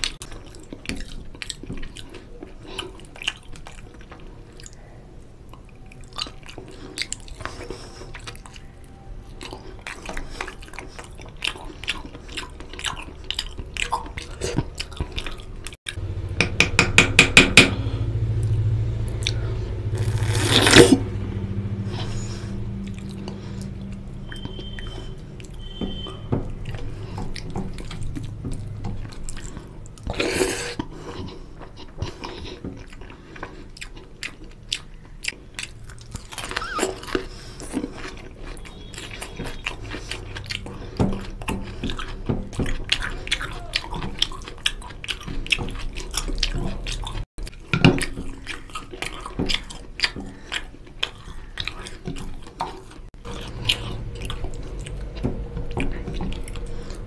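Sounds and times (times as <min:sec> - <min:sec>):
wet chewing and lip-smacking: 0:00.0 - 0:16.0, 0:21.8 - 0:57.0.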